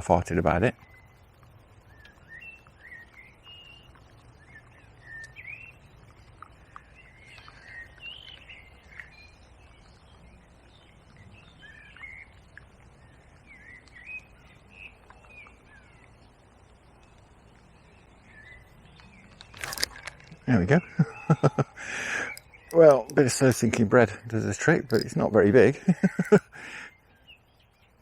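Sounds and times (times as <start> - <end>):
low background noise: 0.0 - 28.0
small birds chirping: 0.0 - 28.0.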